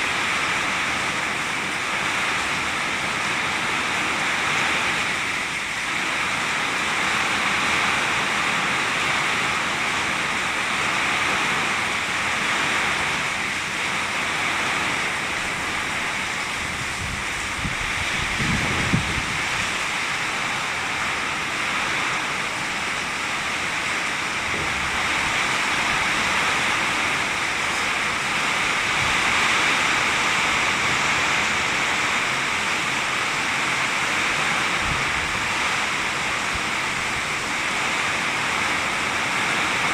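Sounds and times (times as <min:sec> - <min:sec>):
heavy rain pouring: 0:00.0 - 0:39.9
strong wind: 0:00.0 - 0:39.9.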